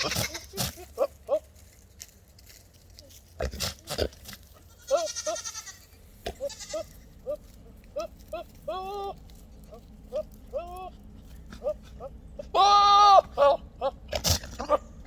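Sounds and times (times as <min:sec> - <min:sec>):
goats calling: 0:00.0 - 0:01.6, 0:04.5 - 0:15.0.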